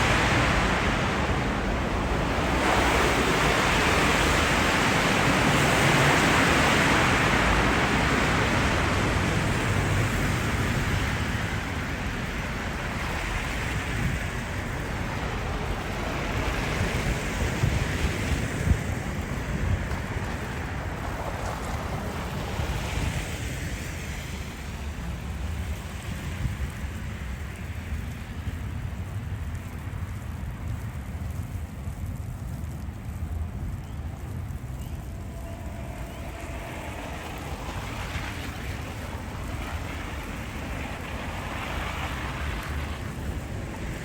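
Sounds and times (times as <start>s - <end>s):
passing traffic: 0.0s - 44.0s
wind: 0.0s - 44.0s
wind rumble on microphone: 0.0s - 44.0s.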